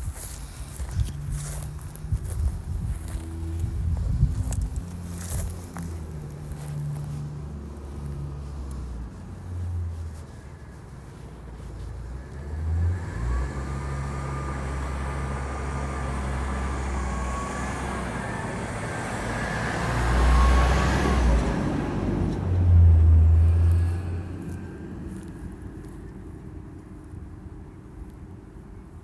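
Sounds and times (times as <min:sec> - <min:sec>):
bus engine rumbling with whine: 0:00.0 - 0:29.0.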